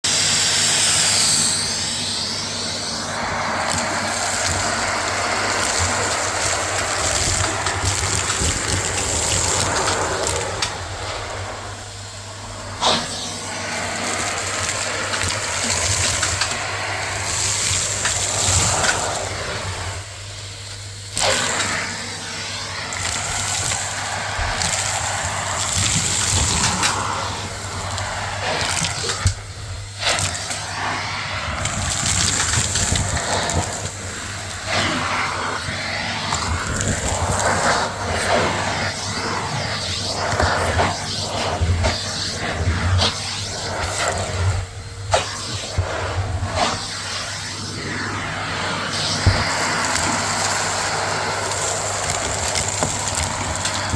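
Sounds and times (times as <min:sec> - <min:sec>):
vacuum cleaner running: 0:00.0 - 0:53.9
debris crackling in vacuum: 0:00.5 - 0:53.9.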